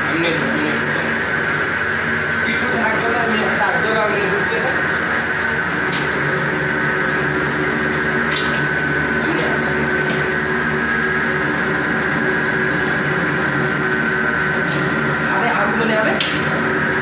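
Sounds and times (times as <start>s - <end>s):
noodle machine motor hum: 0.0s - 17.0s.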